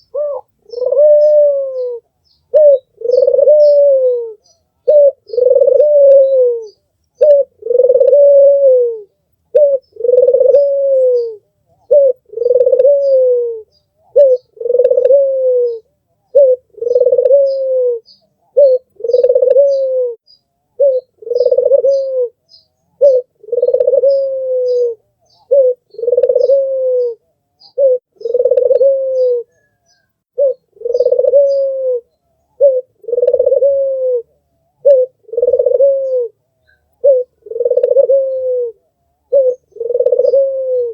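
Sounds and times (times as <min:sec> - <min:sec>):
small birds chirping: 0:00.0 - 0:08.4, 0:09.0 - 0:40.9
dove cooing: 0:00.0 - 0:20.2, 0:20.8 - 0:40.9.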